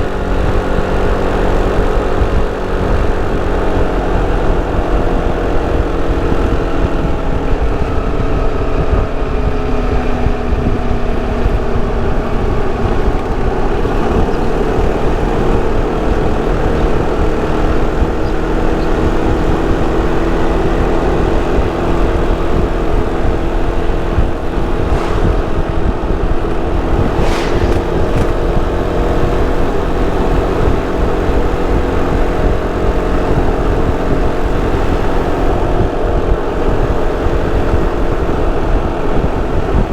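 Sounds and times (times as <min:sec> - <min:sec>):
scooter engine cruising: 0:00.0 - 0:39.9
wind and road noise: 0:00.0 - 0:39.9.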